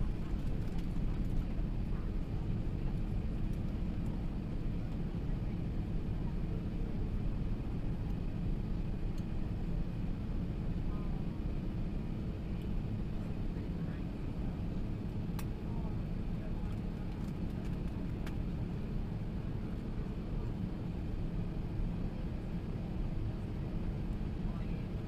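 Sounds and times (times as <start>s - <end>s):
aircraft engine rumble: 0.0s - 25.0s.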